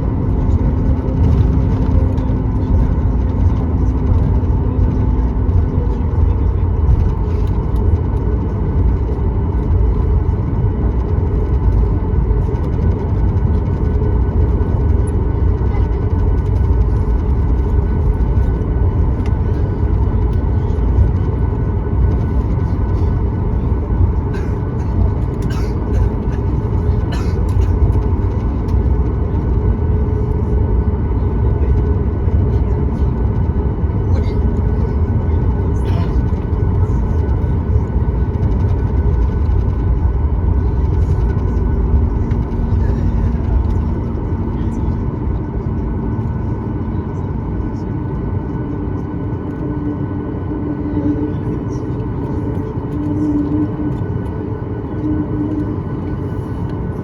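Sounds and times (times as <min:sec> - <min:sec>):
aircraft engines rumbling: 0:00.0 - 0:57.0
faint hum: 0:00.0 - 0:57.0.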